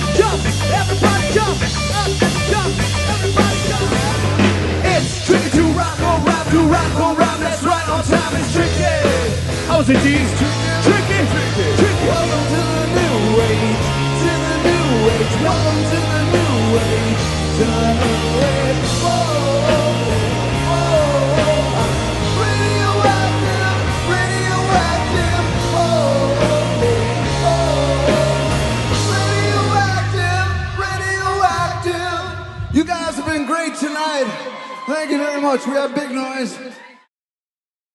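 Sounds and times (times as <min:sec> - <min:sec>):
electric guitar: 0:00.0 - 0:32.4
bass guitar: 0:00.0 - 0:33.2
drum kit: 0:00.0 - 0:33.2
man singing: 0:00.0 - 0:36.8.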